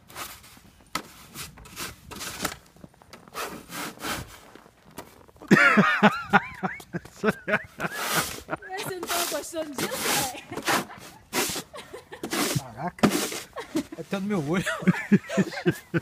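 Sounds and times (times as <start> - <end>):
snow shovel scraping concrete: 0.0 - 16.0.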